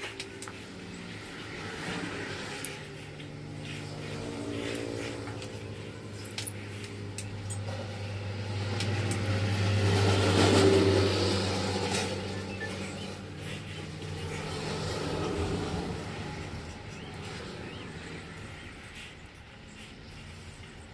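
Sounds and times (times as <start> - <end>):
vehicle engine humming: 0.0 - 20.9.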